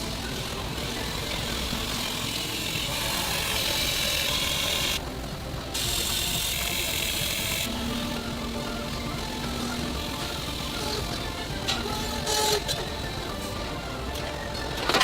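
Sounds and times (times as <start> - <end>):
factory machinery noise: 0.0 - 15.0.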